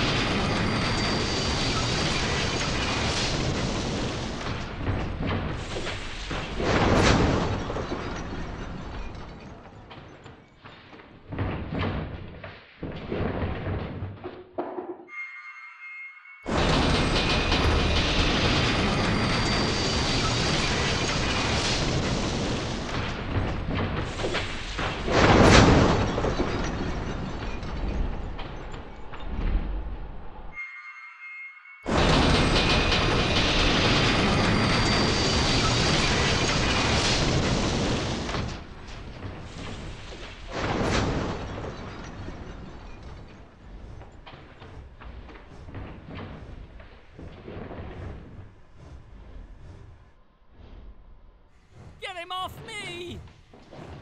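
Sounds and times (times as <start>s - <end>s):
train running on rails: 0.0s - 10.3s, 15.1s - 50.3s
train knocking into wagons: 0.0s - 15.0s, 16.5s - 29.6s, 31.9s - 48.7s.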